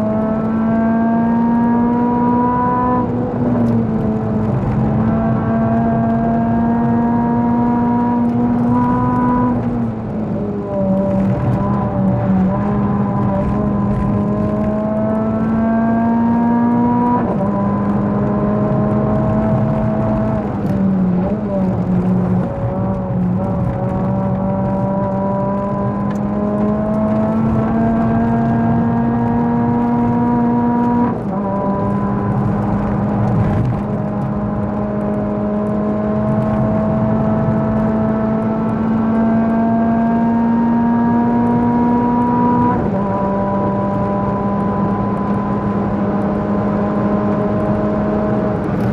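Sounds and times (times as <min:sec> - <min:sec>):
car engine accelerating hard: 0:00.0 - 0:48.9
gear changes: 0:00.0 - 0:48.9.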